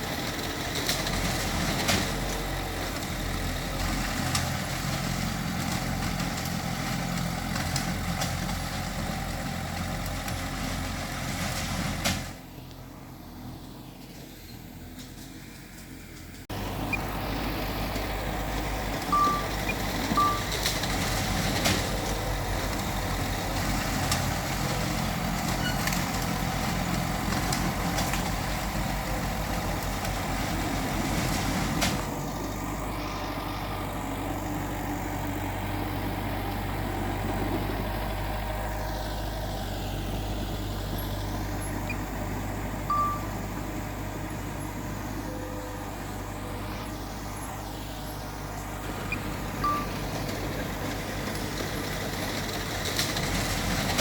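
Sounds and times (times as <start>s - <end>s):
diesel earthmoving machinery: 0.0s - 54.0s.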